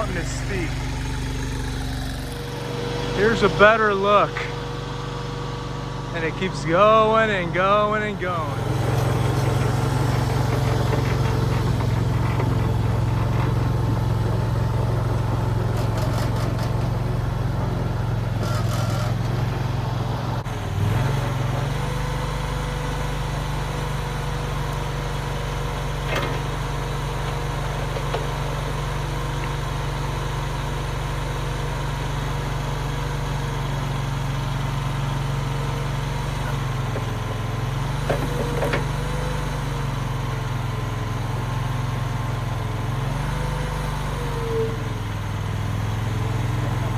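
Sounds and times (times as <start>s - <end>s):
skid steer engine running: 0.0s - 46.9s.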